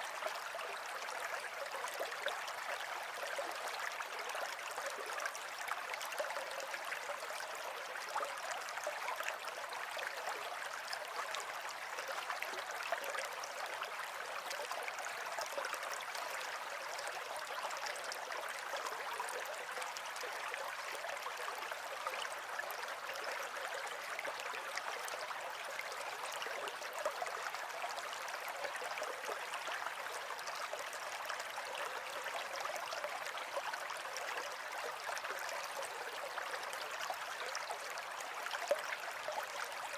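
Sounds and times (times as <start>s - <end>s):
stream babbling and splashing: 0.0s - 39.9s.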